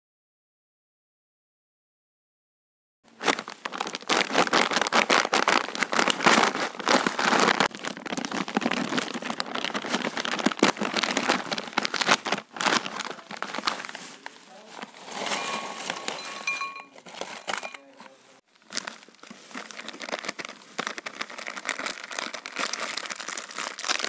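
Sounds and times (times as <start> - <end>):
chip bag crinkling: 3.1 - 24.0.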